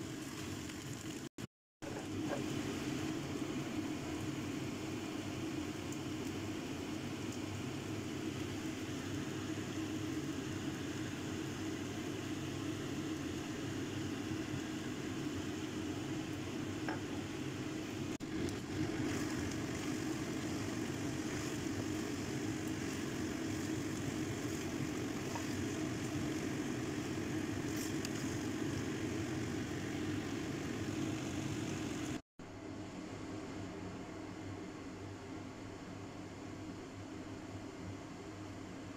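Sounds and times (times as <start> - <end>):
noodles sizzling in a pan: 0.0 - 32.2.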